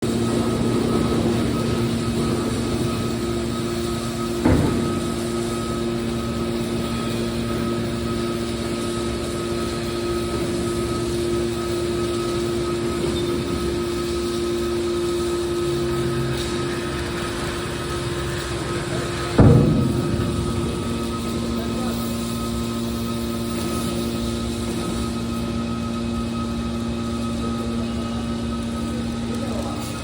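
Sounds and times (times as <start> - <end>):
can baler mechanical hum: 0.0 - 30.0.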